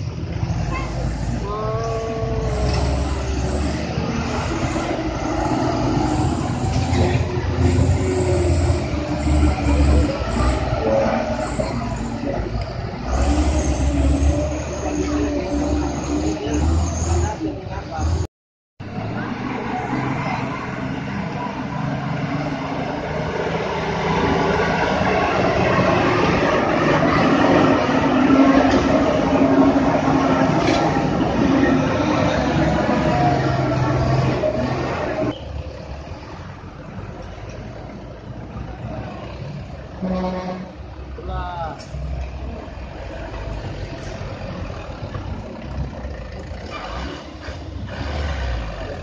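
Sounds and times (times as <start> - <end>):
truck diesel engines rumbling: 0.0 - 49.0.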